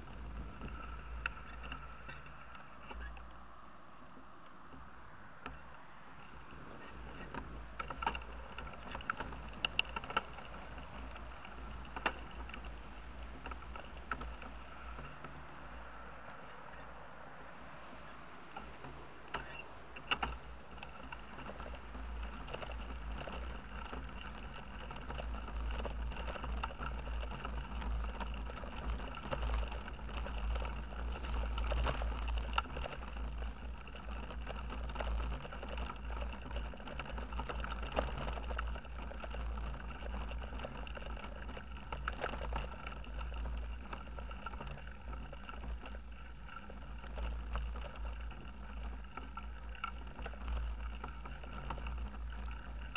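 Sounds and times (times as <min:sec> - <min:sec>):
bike rattles and clicks: 0:00.0 - 0:52.9
bike rumbling on dirt track: 0:00.0 - 0:52.9.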